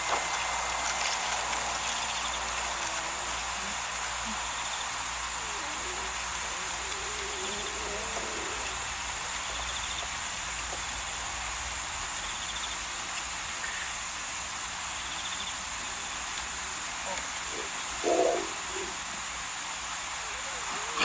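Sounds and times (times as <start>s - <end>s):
insects chirping: 0.0s - 21.0s
steady high hiss: 0.0s - 21.0s.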